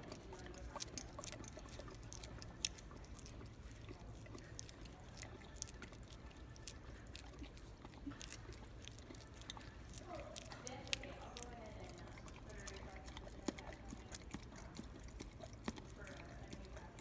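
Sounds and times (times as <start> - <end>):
dog licking wet smacking: 0.0 - 17.0.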